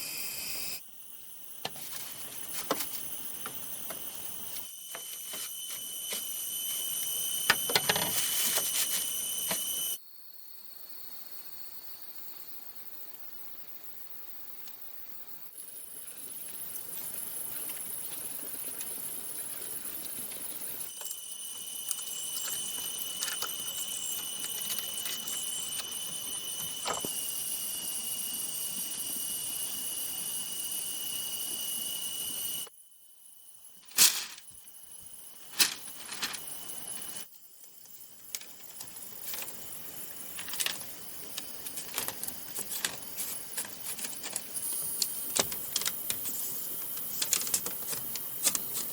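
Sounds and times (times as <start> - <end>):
high-pitched insect drone: 0.0 - 11.0, 15.5 - 48.9.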